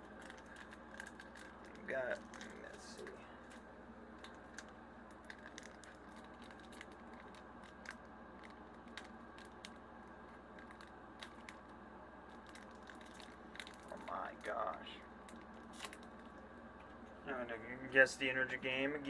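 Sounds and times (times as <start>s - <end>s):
foil wrapper crinkling: 0.0s - 16.5s.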